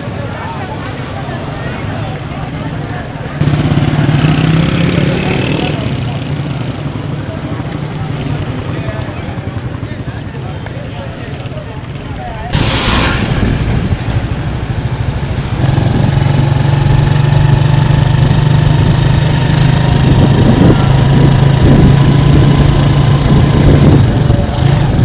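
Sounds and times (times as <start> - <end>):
road and wind noise: 0.0 - 25.0
vehicle engine humming: 0.0 - 25.0.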